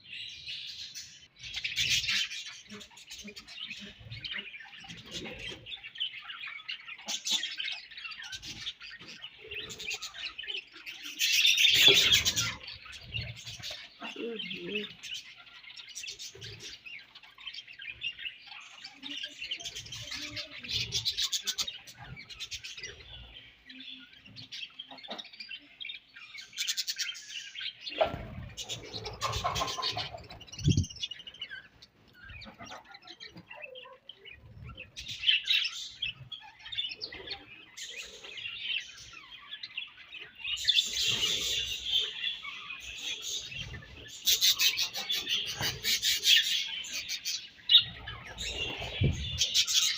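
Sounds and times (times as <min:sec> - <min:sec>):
budgerigars chattering: 0:00.6 - 0:49.9.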